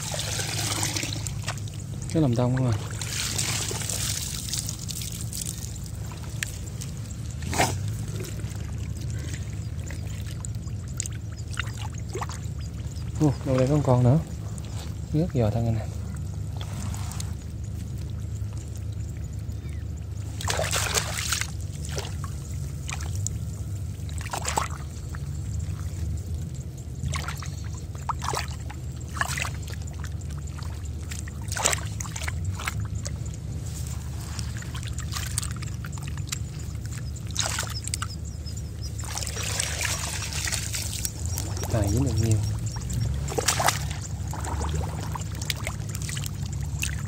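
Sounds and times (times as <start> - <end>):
muddy water sloshing and splashing: 0.0 - 47.0
steady low rumble: 0.0 - 47.0.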